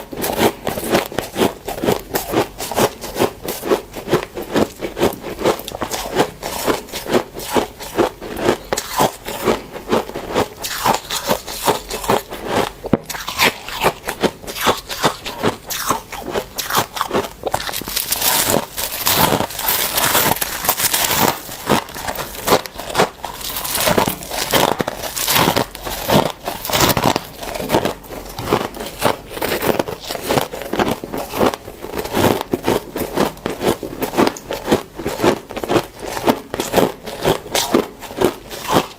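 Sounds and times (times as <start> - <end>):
frost crunching while chewed: 0.0 - 38.9.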